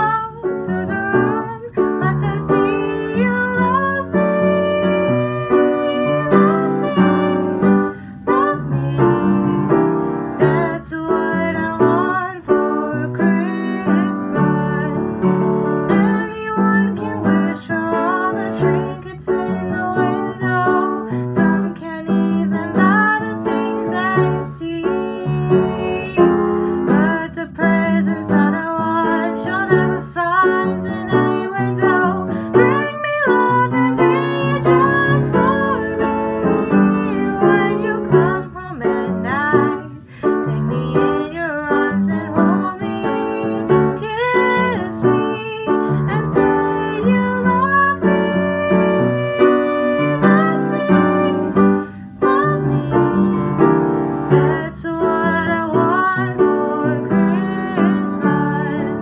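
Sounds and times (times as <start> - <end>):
upright piano: 0.0 - 59.0
woman singing: 0.0 - 59.0.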